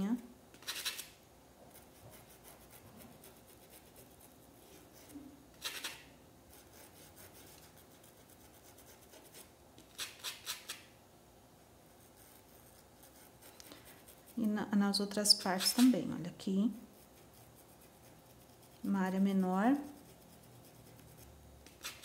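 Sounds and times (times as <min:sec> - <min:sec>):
paintbrush scraping on fabric: 0:01.7 - 0:10.8, 0:11.9 - 0:16.1, 0:16.8 - 0:22.0.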